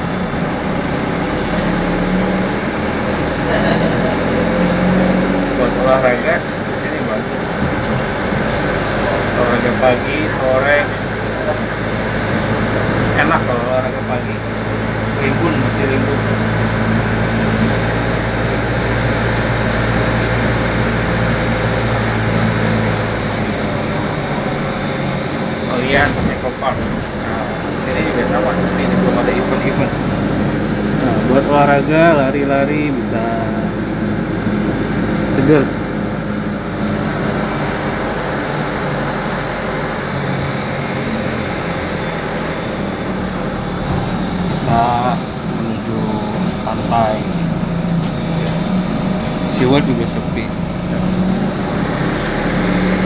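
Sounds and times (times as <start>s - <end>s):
bus engine and road noise: 0.0s - 53.0s.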